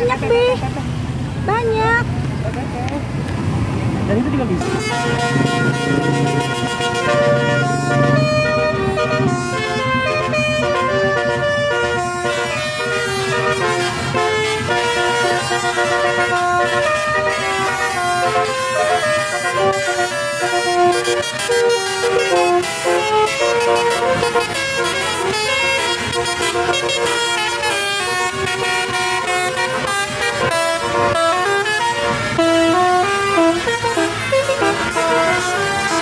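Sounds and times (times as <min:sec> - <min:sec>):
multi-tone bus air horns: 0:04.6 - 0:36.0.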